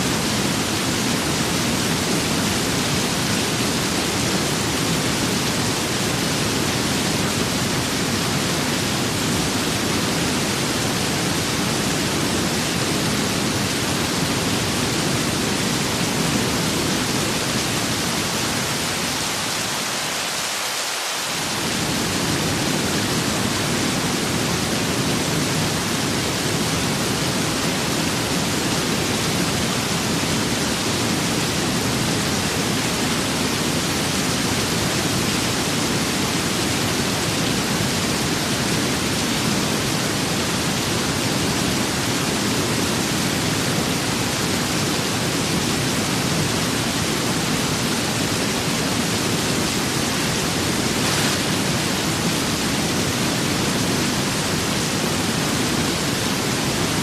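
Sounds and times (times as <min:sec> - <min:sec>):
steady rain: 0:00.0 - 0:57.0
wind: 0:00.0 - 0:57.0.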